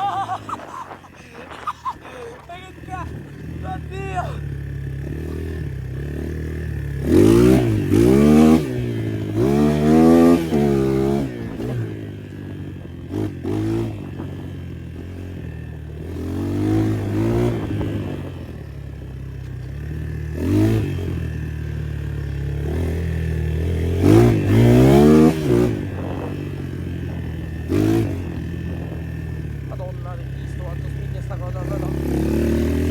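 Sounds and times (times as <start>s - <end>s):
low engine hum: 0.0s - 32.9s
motocross bike engines revving: 0.0s - 32.9s.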